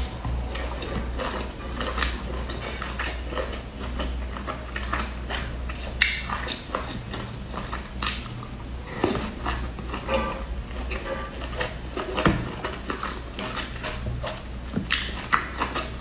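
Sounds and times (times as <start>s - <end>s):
woman chewing with wet mouth clicks: 0.0s - 10.1s, 10.9s - 16.0s.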